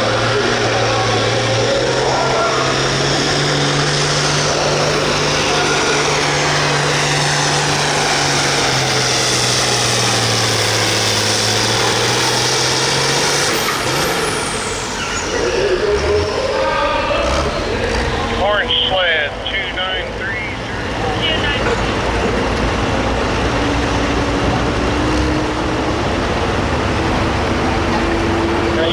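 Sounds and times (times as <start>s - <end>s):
diesel tractor engine at full throttle: 0.0s - 28.9s.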